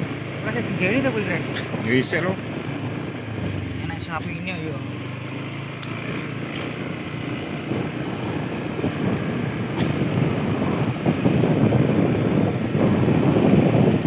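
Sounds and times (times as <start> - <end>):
motorcycle engine: 0.0 - 14.0
road noise on dirt track: 0.0 - 14.0.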